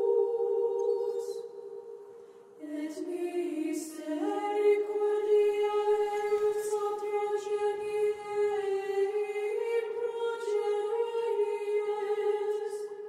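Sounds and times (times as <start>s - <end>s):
wordless choir holding chords: 0.0s - 13.0s.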